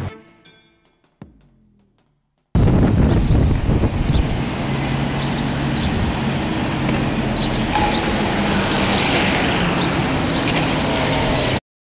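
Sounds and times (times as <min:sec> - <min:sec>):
traffic rumble: 0:01.2 - 0:11.6.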